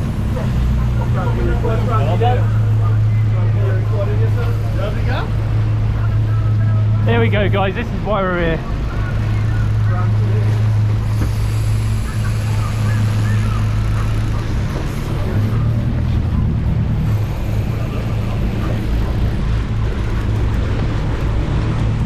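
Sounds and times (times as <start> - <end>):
boat engine running: 0.0 - 22.0
wake water rushing: 0.0 - 22.0.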